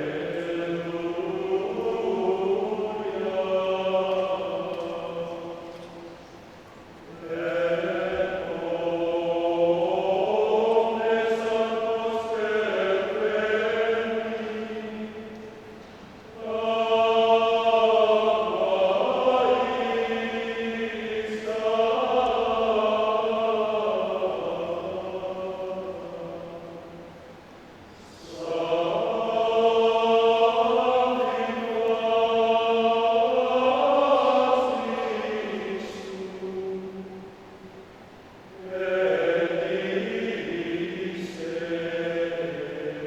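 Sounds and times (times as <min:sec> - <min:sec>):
men's choir singing: 0:00.0 - 0:06.4, 0:07.0 - 0:37.8, 0:38.6 - 0:43.0.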